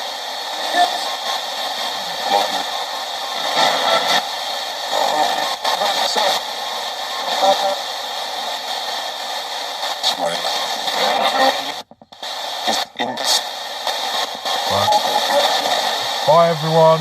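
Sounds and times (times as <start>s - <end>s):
radio static hiss: 0.0s - 17.0s
chopped radio voice fragments: 0.6s - 7.9s, 9.3s - 17.0s.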